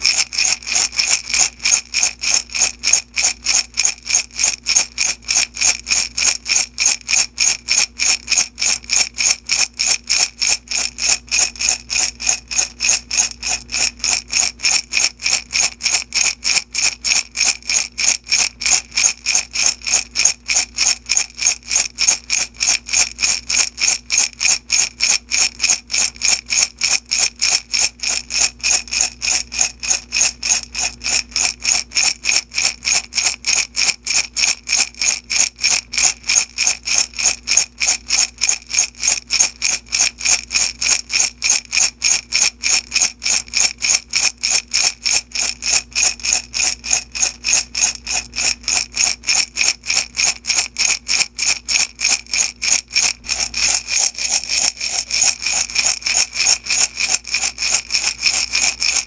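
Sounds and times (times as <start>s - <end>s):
beads rattling in glass jar: 0.0s - 59.0s.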